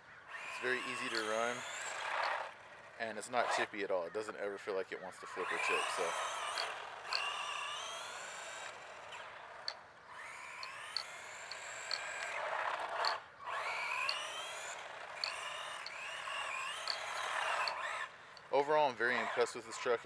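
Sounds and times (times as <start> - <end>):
toy truck electric motor whining: 0.0 - 20.0.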